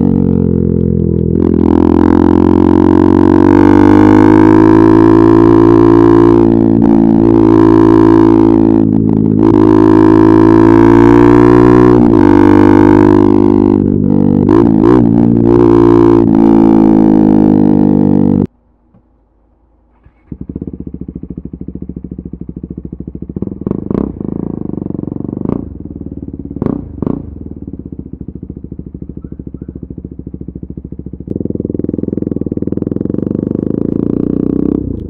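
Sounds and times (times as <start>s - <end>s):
motorcycle engine revving and idling: 0.0s - 18.5s, 19.8s - 35.0s.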